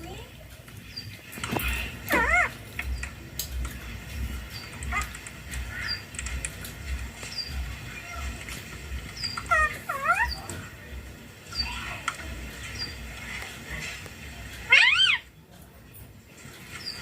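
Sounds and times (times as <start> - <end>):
parakeet chirping and calling: 0.0 - 15.4, 16.6 - 17.0.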